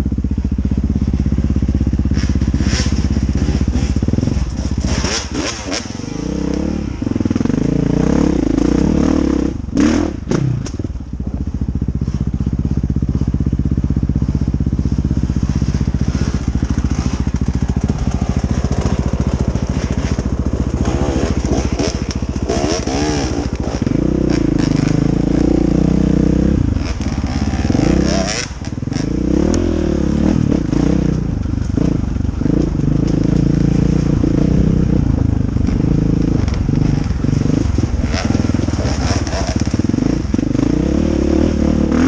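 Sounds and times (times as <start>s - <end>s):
dirt bike engine revving: 0.0s - 11.0s, 11.7s - 42.0s.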